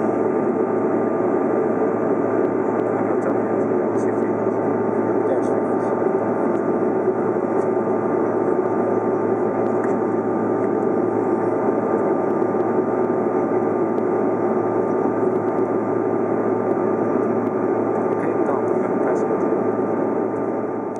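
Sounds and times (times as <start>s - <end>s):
faint steady tones: 0.0s - 20.9s
jet cabin engine hum: 0.0s - 20.9s.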